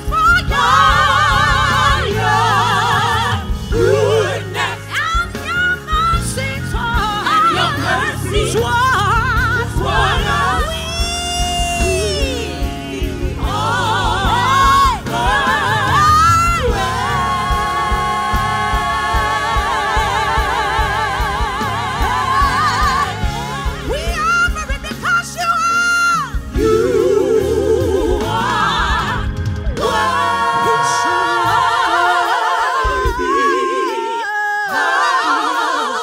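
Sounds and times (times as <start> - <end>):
instrumental backing: 0.0 - 35.9
gospel group singing: 0.0 - 36.0.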